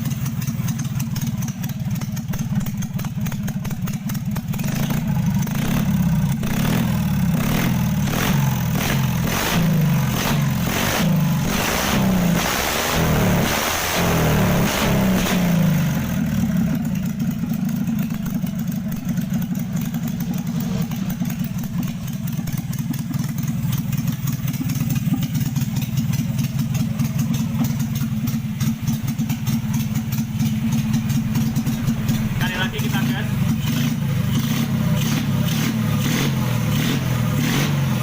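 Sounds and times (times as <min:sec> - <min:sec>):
motorcycle engine revving and idling: 0:00.0 - 0:38.0.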